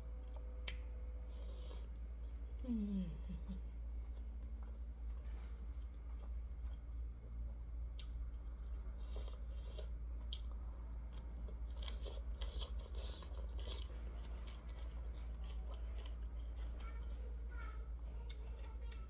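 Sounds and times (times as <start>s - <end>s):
person chewing food: 0.0s - 2.6s, 3.9s - 19.0s
steady low hum: 0.0s - 19.0s.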